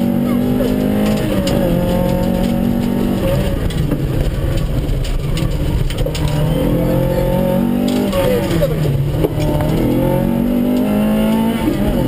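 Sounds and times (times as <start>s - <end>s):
engine crackles: 0.0s - 12.0s
rally car engine from inside cabin: 0.0s - 12.0s.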